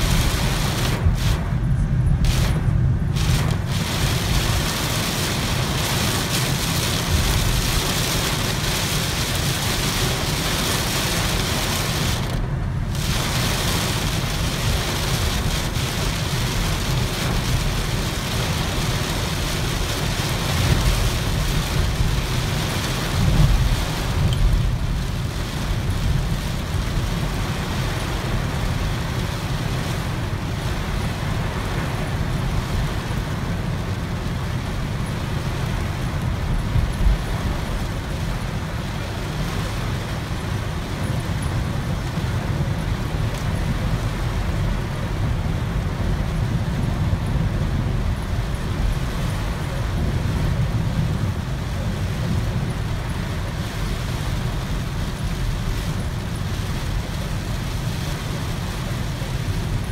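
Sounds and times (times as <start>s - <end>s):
rain hissing on car roof: 0.0s - 59.9s
road and engine rumble: 0.0s - 59.9s.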